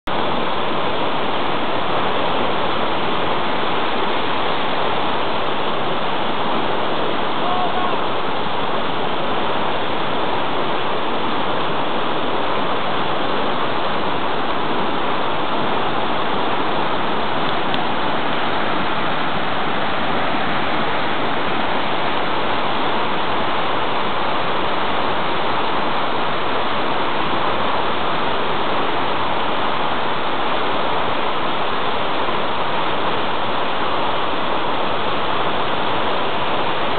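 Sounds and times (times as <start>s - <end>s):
river rapids rushing: 0.1s - 36.9s.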